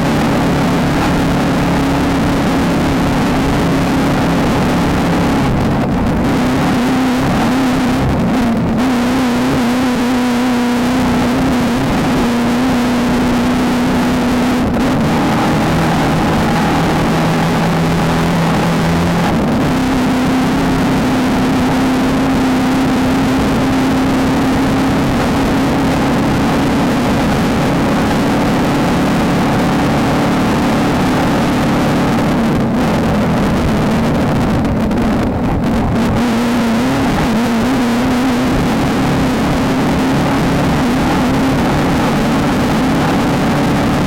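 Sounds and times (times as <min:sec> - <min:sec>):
race car engine running hard: 0:00.0 - 0:44.0
wind and rolling noise: 0:00.0 - 0:44.0.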